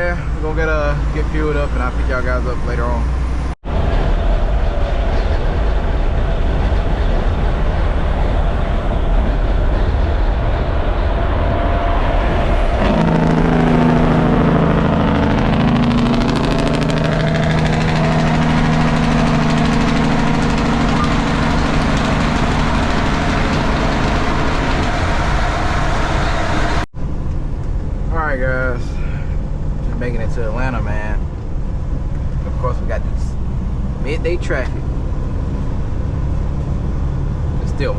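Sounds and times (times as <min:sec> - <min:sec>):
heavy low rumble in truck cab: 0:00.0 - 0:37.9
truck engine drone: 0:00.0 - 0:37.9.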